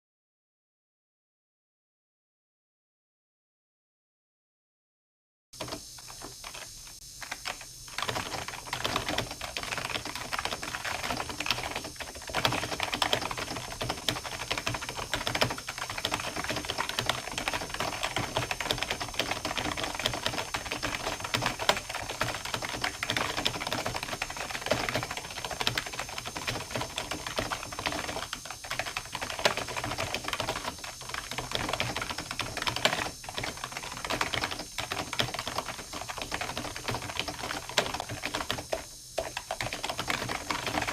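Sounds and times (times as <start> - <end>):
fast typing on a keyboard: 5.6 - 40.9.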